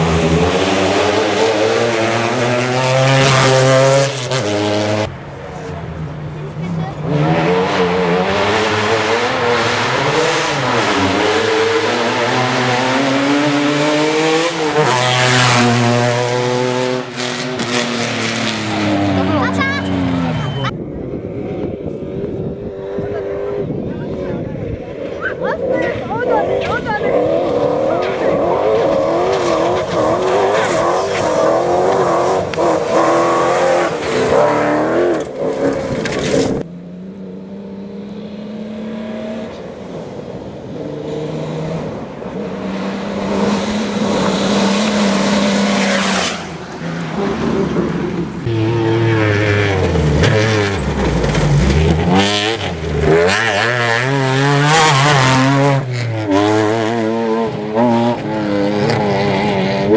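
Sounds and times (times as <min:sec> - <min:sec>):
engines revving through gears: 0:00.0 - 0:05.1, 0:06.8 - 0:20.7, 0:25.5 - 0:39.7, 0:40.7 - 0:59.9
race cars passing on dirt: 0:00.0 - 0:59.9.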